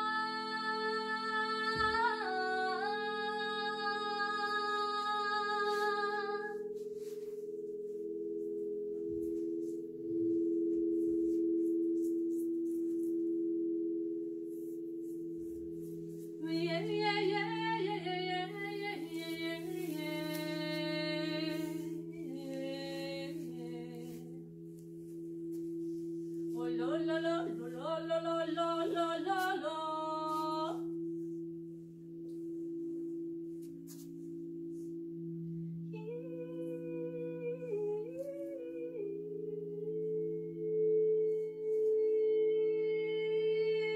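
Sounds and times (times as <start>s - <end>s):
singing bowls ringing: 0.0s - 43.9s.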